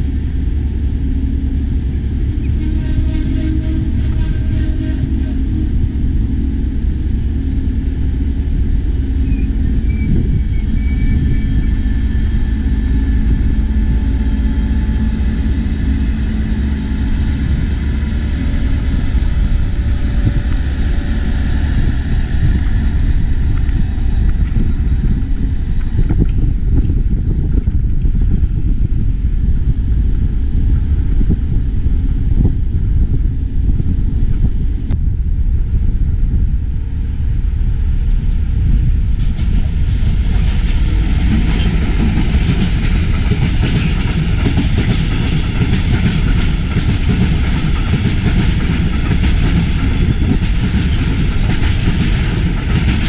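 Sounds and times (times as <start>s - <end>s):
diesel train engine rumbling: 0.0s - 53.0s.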